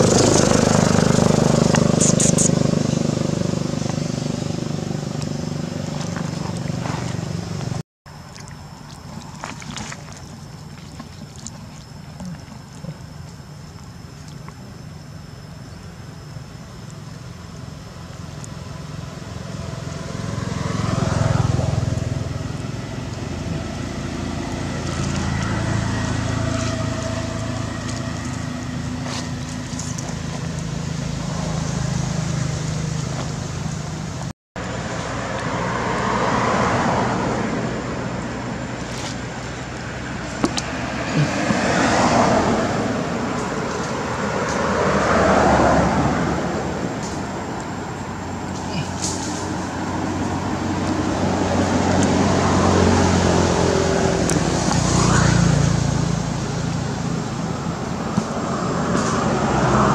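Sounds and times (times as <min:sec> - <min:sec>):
vehicle passing: 0:00.0 - 0:07.8, 0:19.0 - 0:59.9
traffic rumble: 0:00.0 - 0:59.9.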